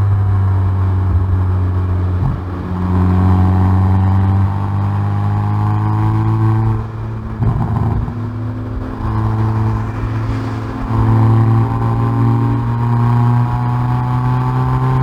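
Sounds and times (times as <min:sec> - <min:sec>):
car exhaust revving: 0:00.0 - 0:15.0
exhaust crackle: 0:00.0 - 0:15.0.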